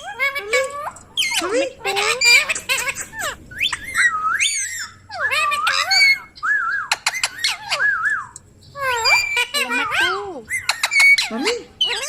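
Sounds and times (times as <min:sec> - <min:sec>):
parrot whistling and chirping: 0:00.0 - 0:12.0.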